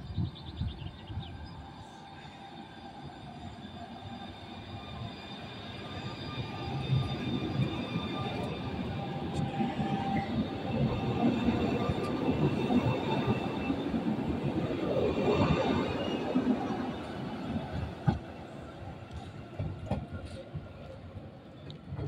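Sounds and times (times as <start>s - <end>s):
train wheels rumbling on rails: 0.2s - 22.0s.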